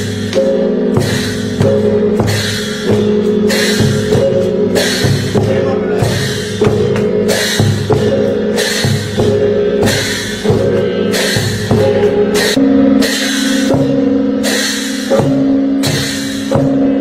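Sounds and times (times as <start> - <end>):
gongs ringing: 0.0 - 17.0
large drum beaten hard: 0.0 - 17.0.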